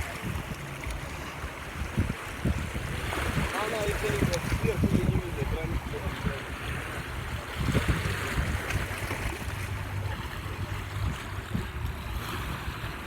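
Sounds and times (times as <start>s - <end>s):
sea waves washing on shore: 0.0s - 13.0s
wind rumble on microphone: 0.0s - 13.0s.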